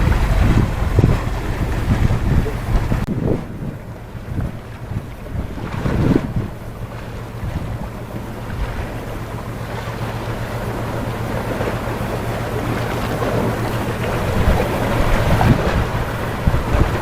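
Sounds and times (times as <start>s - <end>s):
constant low hum: 0.0s - 17.0s
sea noise: 0.0s - 17.0s
wind on microphone: 0.0s - 17.0s.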